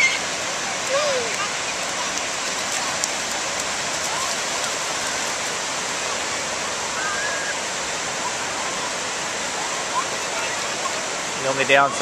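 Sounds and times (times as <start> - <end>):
ocean surf: 0.0 - 12.0.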